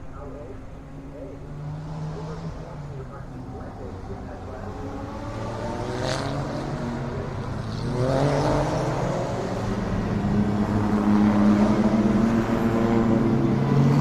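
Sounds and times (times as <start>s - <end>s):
race car engines: 0.0s - 14.0s.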